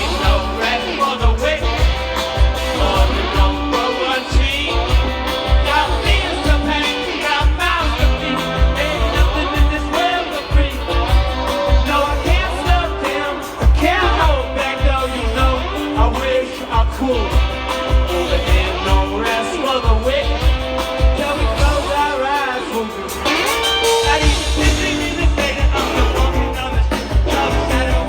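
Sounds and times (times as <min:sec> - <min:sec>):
lead vocal singing: 0:00.0 - 0:28.0
live rock band playing: 0:00.0 - 0:28.0.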